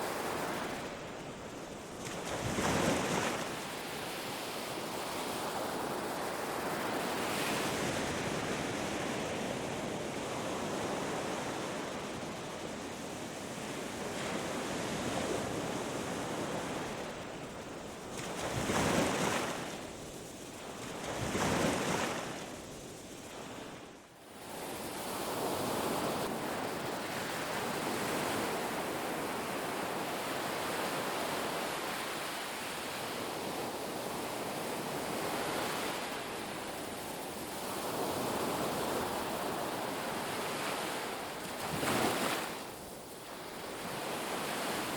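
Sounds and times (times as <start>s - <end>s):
ocean surf washing on beach: 0.0s - 44.9s.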